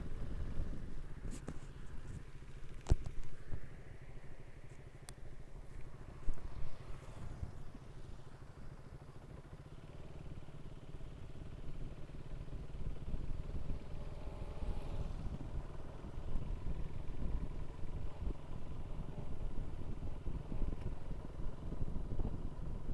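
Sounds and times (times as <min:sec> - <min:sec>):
motorcycle engine running: 0:00.0 - 0:22.9
road and wind noise: 0:00.0 - 0:22.9.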